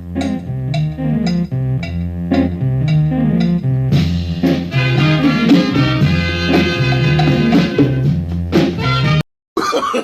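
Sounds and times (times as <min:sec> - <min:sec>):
guitar and bass music with beat: 0:00.0 - 0:09.2.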